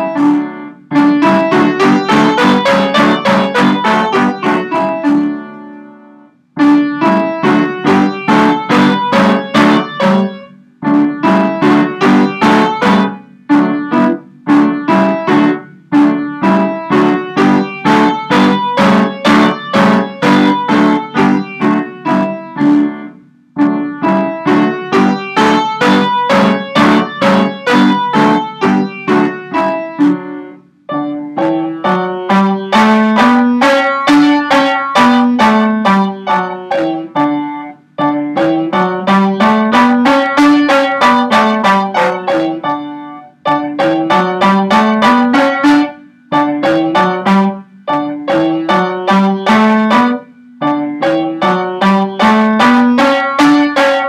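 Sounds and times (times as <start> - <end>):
piano playing scales: 0.0 - 54.0.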